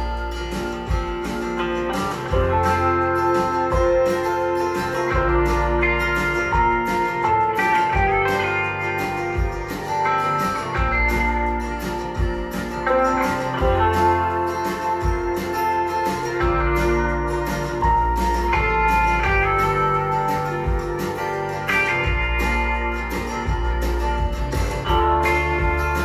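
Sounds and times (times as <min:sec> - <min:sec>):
guitar music with bass and drums: 0:00.0 - 0:26.0.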